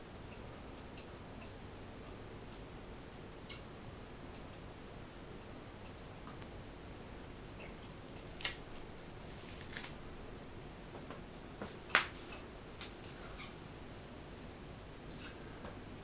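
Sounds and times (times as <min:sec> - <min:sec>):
faint background hum: 0:00.0 - 0:16.0.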